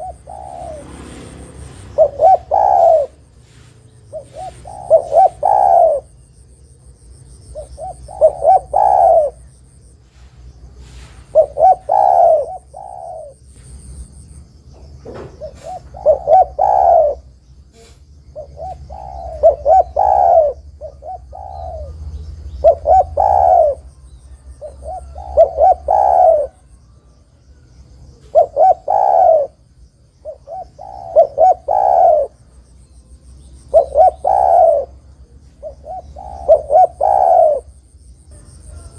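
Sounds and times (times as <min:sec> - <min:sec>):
dove cooing: 0:00.0 - 0:06.5, 0:07.4 - 0:09.6, 0:10.2 - 0:13.8, 0:15.0 - 0:32.5, 0:33.6 - 0:38.9.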